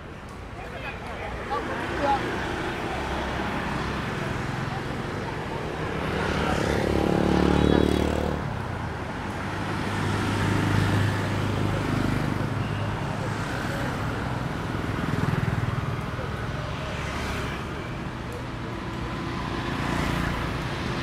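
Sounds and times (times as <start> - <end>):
motorbikes passing: 0.0 - 21.0
street traffic: 0.0 - 21.0.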